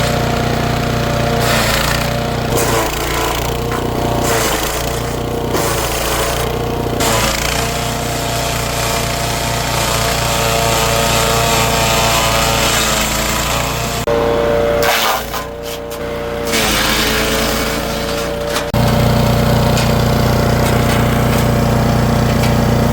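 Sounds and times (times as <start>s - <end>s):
woodchipper engine running: 0.0s - 22.9s.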